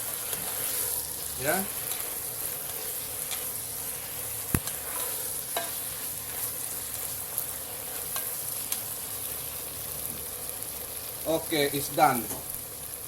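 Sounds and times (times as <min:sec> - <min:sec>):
chicken and mushrooms sizzling in pan: 0:00.0 - 0:13.0.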